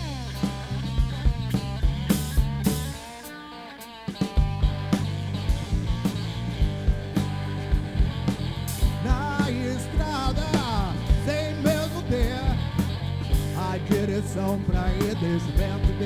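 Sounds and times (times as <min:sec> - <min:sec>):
electric guitar bending notes: 0:00.0 - 0:16.0
rock band playing live: 0:00.0 - 0:16.0.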